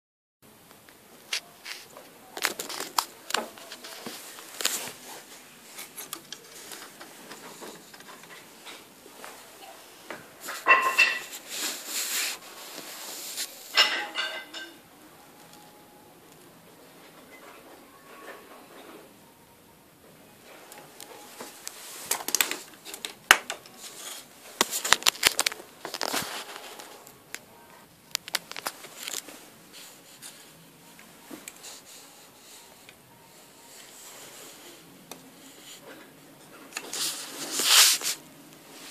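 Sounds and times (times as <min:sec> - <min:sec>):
crackling rustles: 0:01.2 - 0:14.7, 0:20.4 - 0:38.9.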